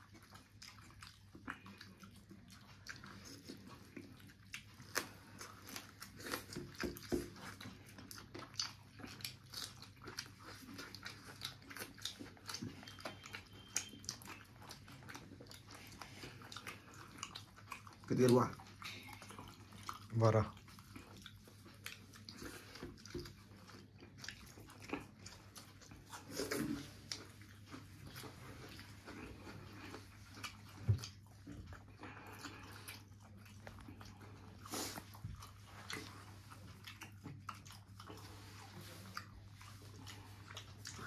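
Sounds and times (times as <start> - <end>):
person chewing and smacking: 0.0 - 41.0.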